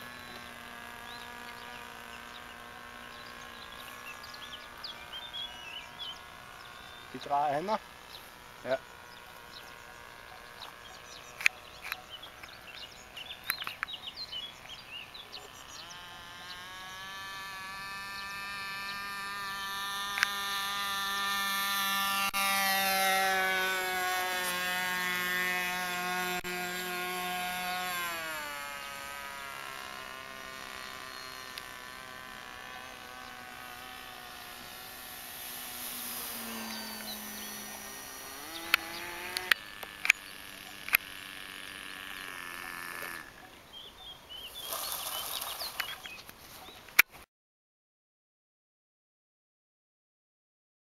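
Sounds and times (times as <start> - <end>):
model airplane motor buzzing: 0.0 - 47.1.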